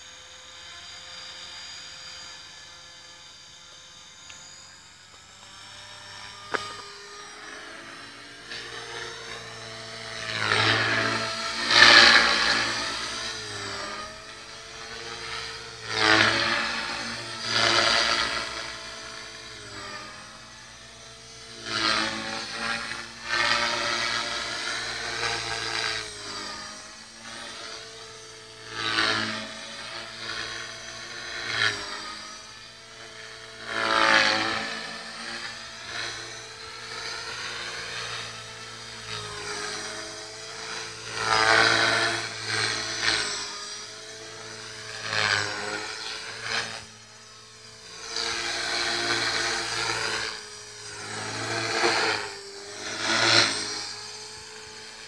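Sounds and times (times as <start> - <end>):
rc helicopter motor whine: 0.0 - 55.0.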